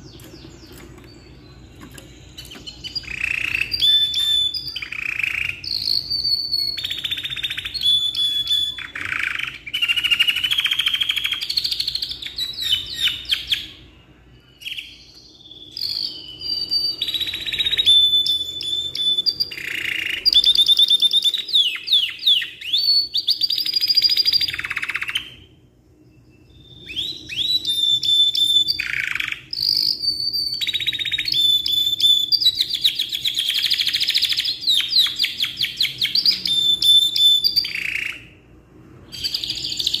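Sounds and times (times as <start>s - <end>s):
canary singing trills: 0.0s - 38.5s, 39.1s - 40.0s.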